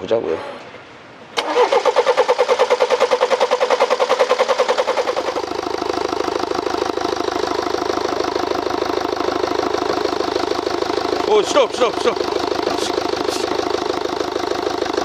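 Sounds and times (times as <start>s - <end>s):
diesel engine cranking and idling: 1.3s - 15.0s.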